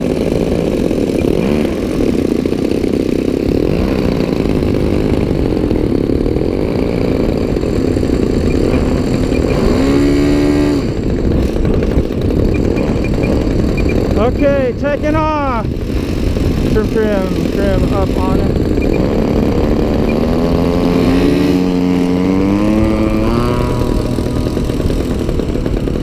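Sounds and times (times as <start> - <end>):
model plane engine running: 0.0 - 26.0.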